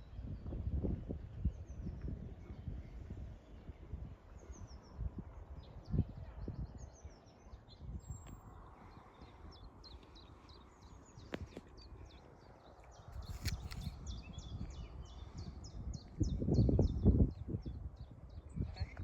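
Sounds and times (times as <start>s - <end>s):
songbirds chirping and singing: 3.4s - 19.0s.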